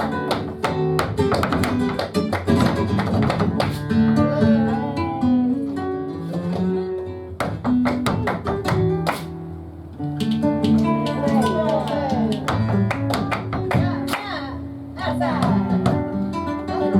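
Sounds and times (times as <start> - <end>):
flamenco guitar playing: 0.0 - 16.9.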